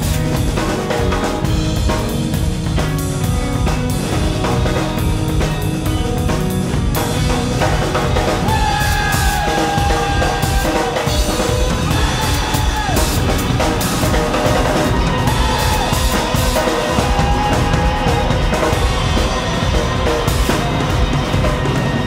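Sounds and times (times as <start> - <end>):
drum kit with cymbals and snare: 0.0 - 22.0.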